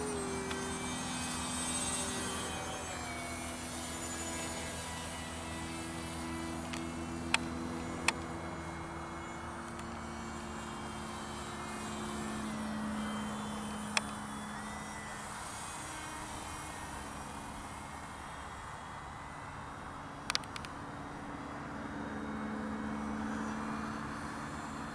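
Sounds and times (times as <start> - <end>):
model airplane motor droning: 0.0 - 24.9.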